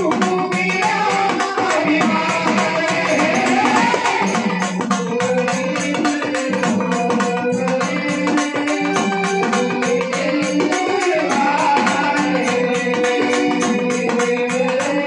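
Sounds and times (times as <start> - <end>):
frame drum beat: 0.0 - 15.0.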